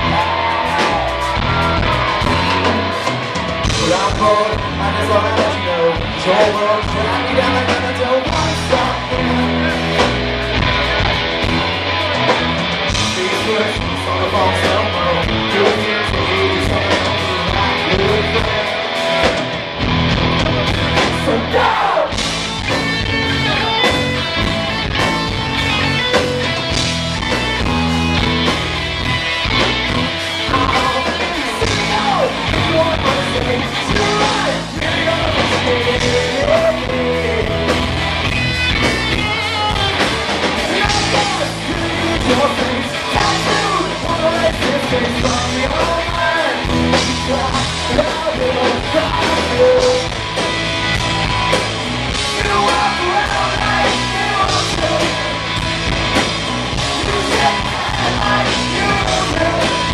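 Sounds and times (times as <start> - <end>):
man singing: 0.0 - 11.2, 11.9 - 19.4, 20.4 - 22.2, 23.0 - 24.8, 30.3 - 38.4, 39.0 - 50.2, 52.1 - 55.6, 56.7 - 59.9
rock band playing: 0.0 - 59.9.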